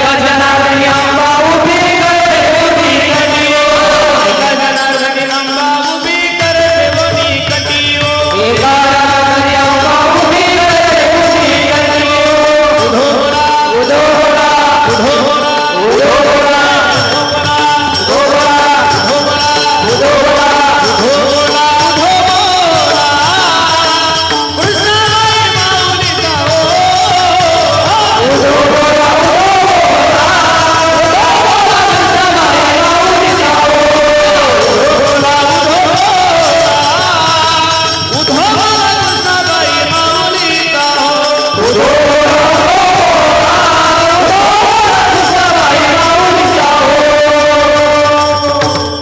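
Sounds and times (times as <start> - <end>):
devotional song with singing: 0.0 - 49.0.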